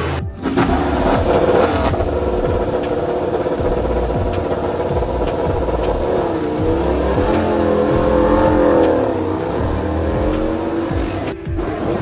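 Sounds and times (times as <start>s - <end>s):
motorcycle engine pulling away: 0.4s - 12.0s.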